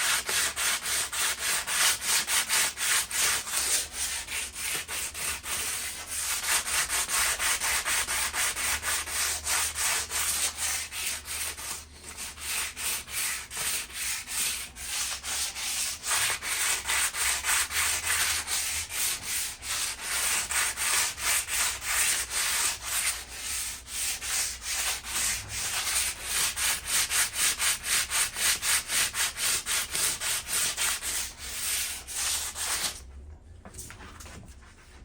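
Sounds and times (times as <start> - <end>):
sanding scraping on metal: 0.0 - 33.0.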